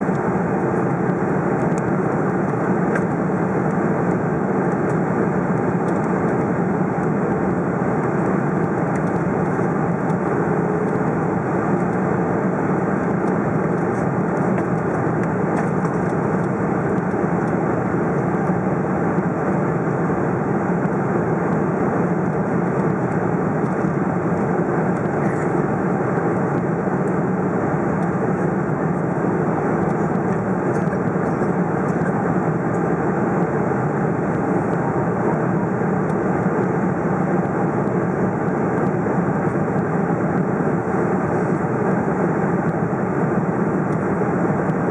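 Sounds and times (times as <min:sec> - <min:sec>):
airplane cabin engine noise: 0:00.0 - 0:44.9.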